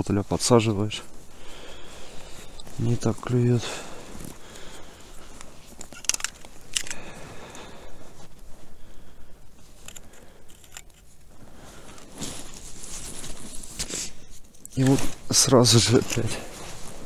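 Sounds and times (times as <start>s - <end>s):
handling clicks and rustles: 0.0s - 8.8s, 9.4s - 17.0s.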